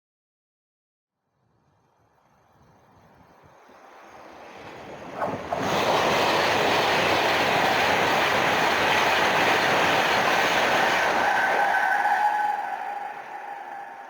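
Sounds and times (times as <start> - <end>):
train passing at speed: 1.9 - 14.0.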